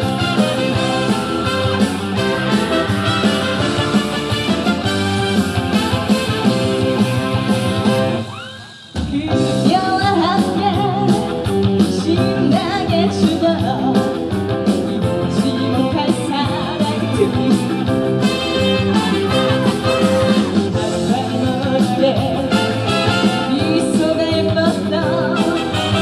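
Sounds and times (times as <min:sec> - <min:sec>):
live band playing upbeat music: 0:00.0 - 0:26.0.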